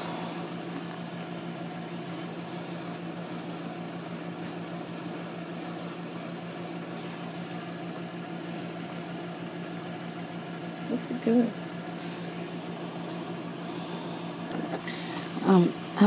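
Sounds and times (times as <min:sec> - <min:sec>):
dishwasher running: 0:00.0 - 0:16.0.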